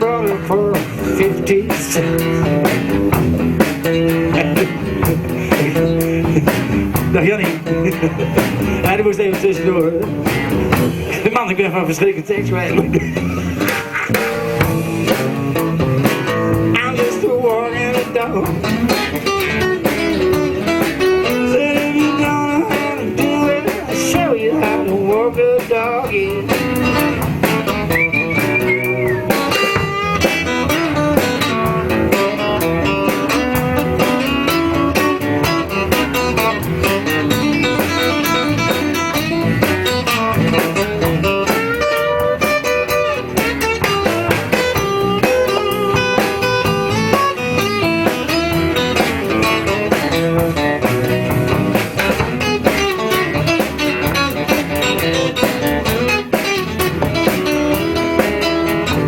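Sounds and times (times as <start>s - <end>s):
blues band playing: 0.0s - 59.0s
electric guitar: 0.0s - 59.0s.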